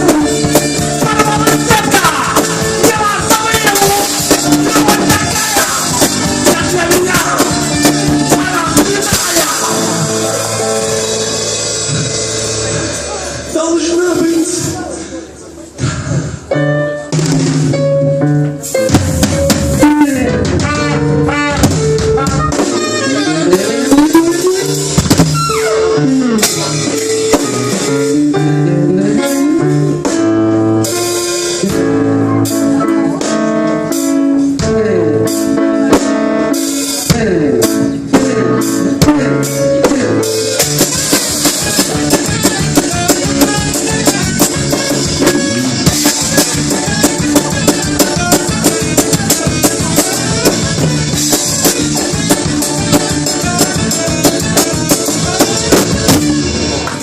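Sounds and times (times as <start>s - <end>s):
electric guitar bending notes: 0.0s - 13.6s, 15.8s - 57.0s
drum kit with rimshots: 0.0s - 14.9s, 15.6s - 57.0s
bass guitar: 0.0s - 57.0s.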